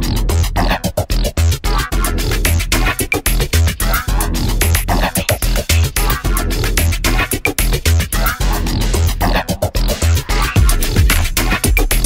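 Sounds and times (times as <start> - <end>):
electronic dance music: 1.8 - 12.0.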